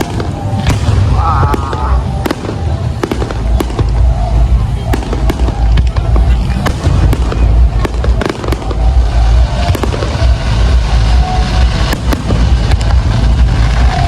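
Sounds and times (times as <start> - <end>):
low rumble of firework bursts: 0.0 - 14.0
sharp firework cracks and pops: 0.0 - 14.0.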